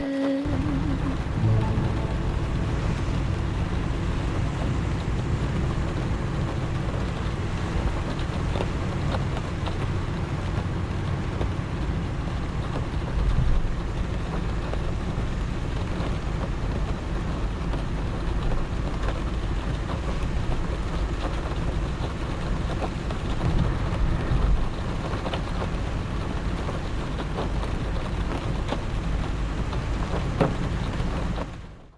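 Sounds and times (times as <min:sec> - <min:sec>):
rain hissing on car: 0:00.0 - 0:01.7, 0:02.6 - 0:31.9.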